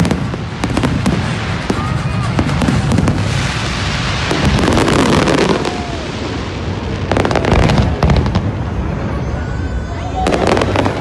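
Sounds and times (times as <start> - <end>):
fireworks crackling bursts: 0.0 - 11.0
low booming: 0.0 - 11.0.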